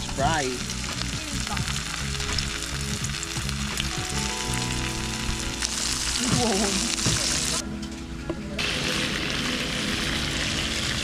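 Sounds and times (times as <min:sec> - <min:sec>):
chicken frying in hot oil: 0:00.0 - 0:07.6, 0:08.6 - 0:11.0.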